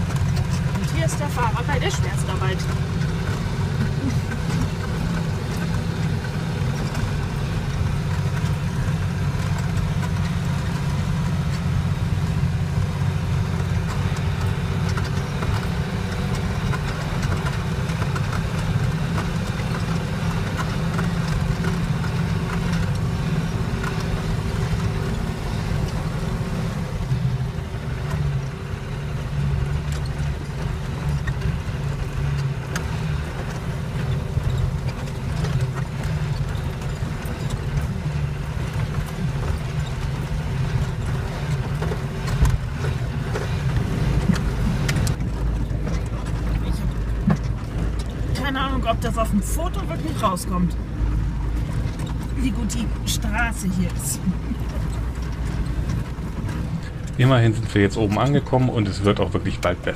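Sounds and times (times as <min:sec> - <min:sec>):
knocks and rattles: 0:00.0 - 0:59.9
vehicle engine running: 0:00.0 - 0:59.9.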